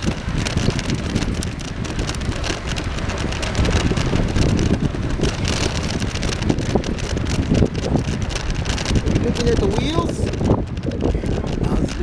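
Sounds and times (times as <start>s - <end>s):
tyres rolling on dirt path: 0.0s - 12.0s
wind buffeting microphone: 0.0s - 12.0s.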